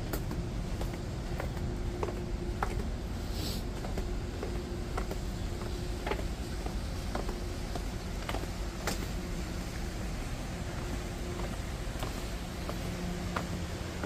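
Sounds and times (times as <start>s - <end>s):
footsteps with sharp ticks: 0.0s - 14.0s
steady low rumble: 0.0s - 14.0s.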